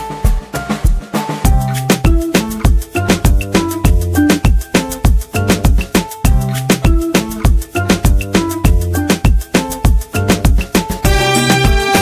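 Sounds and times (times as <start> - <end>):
background music with quick beat: 0.0 - 12.0.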